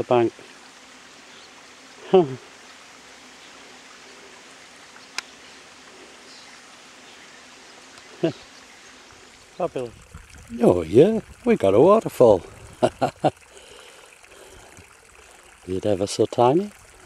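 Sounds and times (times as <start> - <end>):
small stream running: 0.0 - 17.0.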